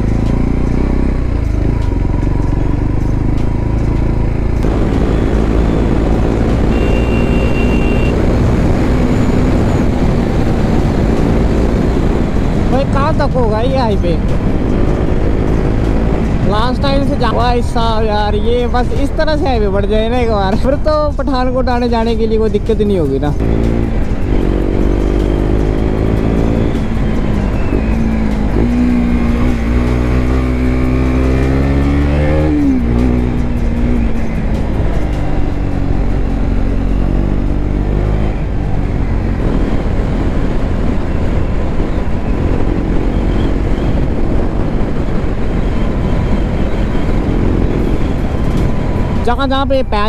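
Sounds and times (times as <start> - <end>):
motorcycle engine accelerating: 0.0 - 19.1, 23.3 - 50.0.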